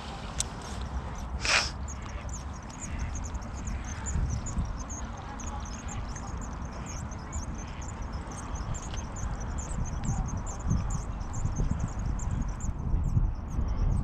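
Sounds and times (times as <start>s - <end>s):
small birds chirping: 0.1s - 14.0s
low rumble: 1.2s - 14.0s.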